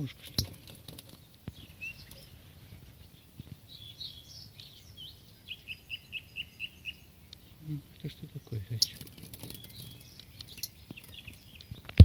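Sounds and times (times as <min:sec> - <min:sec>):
fledgling bird chirping: 0:00.0 - 0:12.0.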